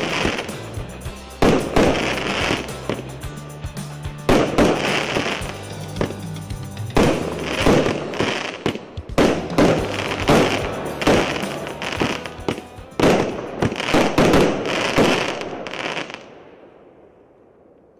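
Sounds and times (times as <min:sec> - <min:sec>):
firework bangs with crackling: 0:00.0 - 0:03.3, 0:04.2 - 0:06.3, 0:06.9 - 0:16.3.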